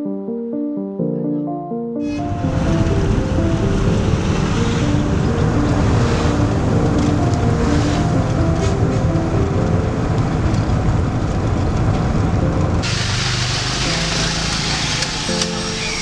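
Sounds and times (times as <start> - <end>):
soft melodic music: 0.0 - 16.0
traffic and street ambience: 2.1 - 16.0
car engine and road rumble: 2.2 - 16.0.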